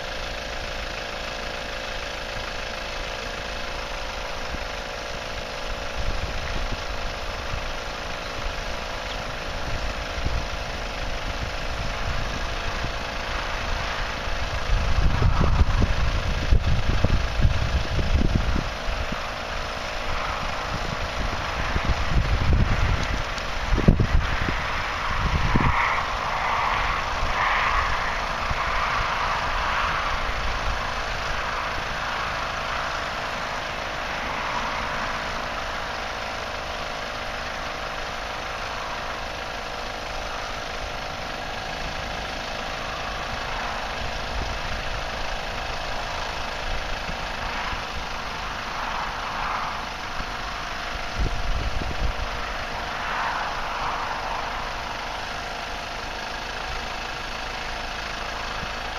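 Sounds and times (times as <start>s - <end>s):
low rumbles: 0.0s - 58.9s.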